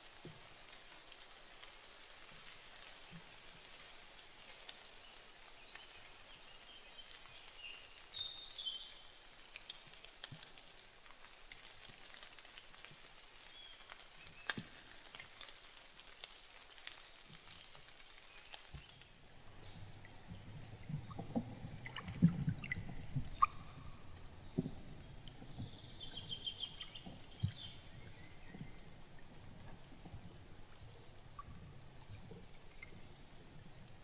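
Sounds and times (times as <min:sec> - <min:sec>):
faint steady rain: 0:00.0 - 0:34.0.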